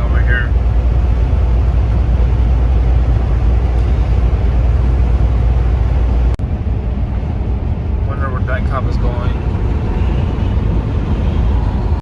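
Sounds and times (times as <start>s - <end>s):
truck cab rumble: 0.0s - 12.0s.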